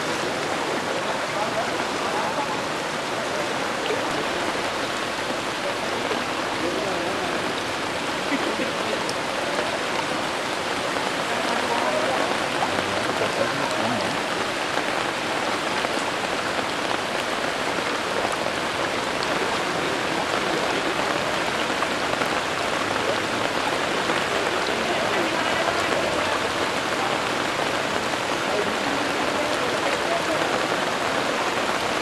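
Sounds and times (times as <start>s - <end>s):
heavy rain on water: 0.0s - 32.0s.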